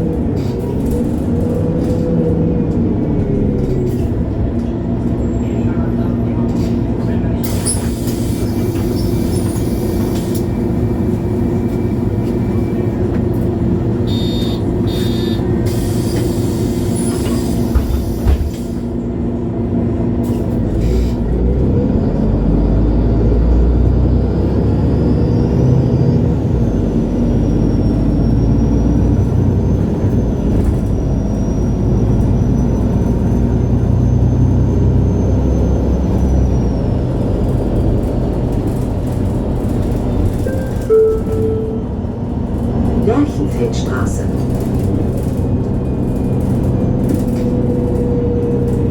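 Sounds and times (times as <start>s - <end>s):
bus diesel engine: 0.0s - 48.9s.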